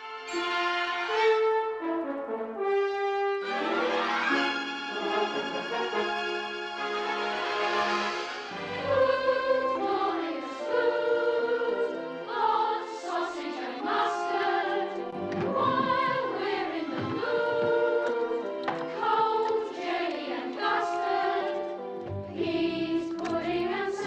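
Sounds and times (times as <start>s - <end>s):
choir singing long notes: 3.4s - 24.0s.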